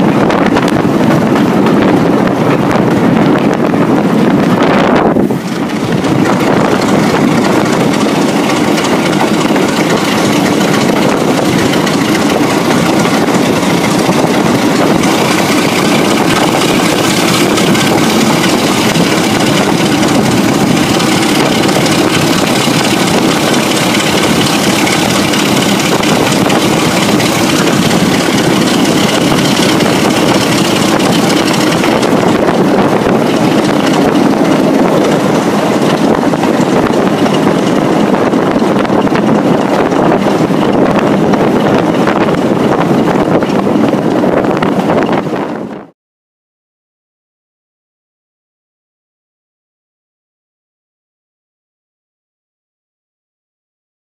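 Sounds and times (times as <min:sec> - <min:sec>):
diesel locomotive engine working: 0:00.0 - 0:46.0
wind rushing over microphone: 0:00.0 - 0:46.0.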